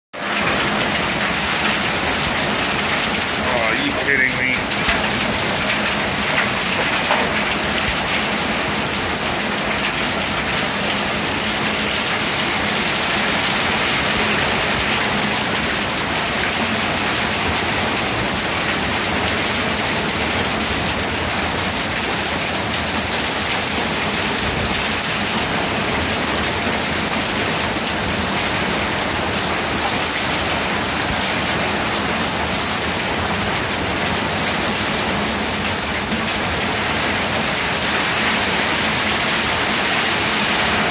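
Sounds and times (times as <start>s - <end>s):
heavy rain pouring: 0.2s - 40.9s.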